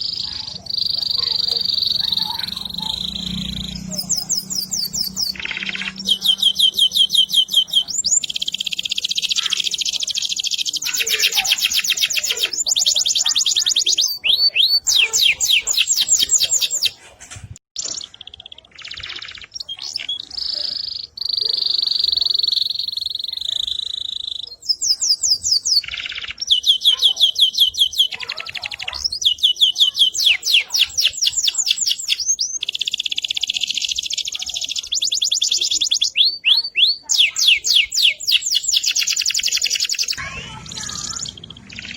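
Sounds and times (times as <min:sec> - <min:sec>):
canary singing trills: 0:00.0 - 0:17.1, 0:17.8 - 0:41.9.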